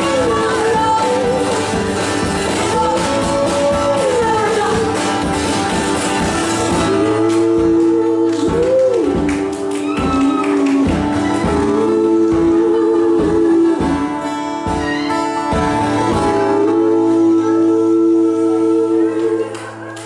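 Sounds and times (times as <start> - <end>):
woman singing: 0.0 - 5.4, 6.7 - 15.4, 16.0 - 20.0
acoustic guitars strummed: 0.0 - 20.0.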